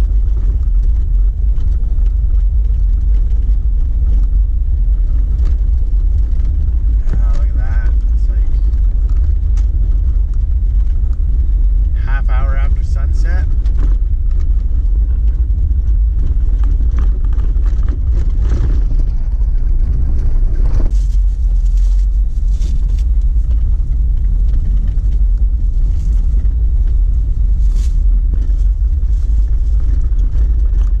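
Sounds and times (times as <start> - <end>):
gravel clicks and body rattles: 0.0 - 31.0
vehicle engine and tyres rumbling: 0.0 - 31.0.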